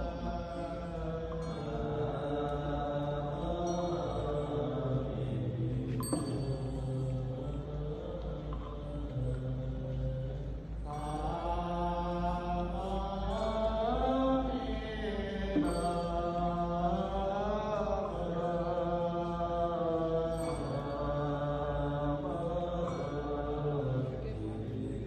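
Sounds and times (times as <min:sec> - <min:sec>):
monks chanting: 0:00.0 - 0:25.0.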